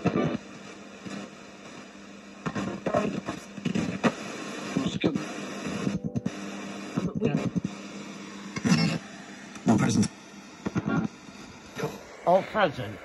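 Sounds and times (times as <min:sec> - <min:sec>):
radio static hiss: 0:00.0 - 0:13.0
choppy broadcast voices: 0:02.4 - 0:13.0.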